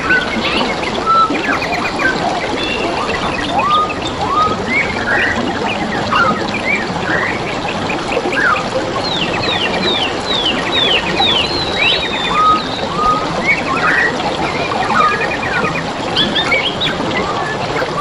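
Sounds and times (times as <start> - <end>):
babbling stream: 0.0 - 18.0
birds calling and singing: 0.0 - 18.0.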